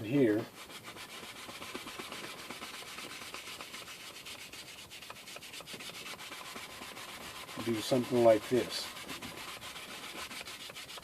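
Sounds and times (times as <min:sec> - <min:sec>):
paintbrush scratching on canvas: 0:00.1 - 0:11.0.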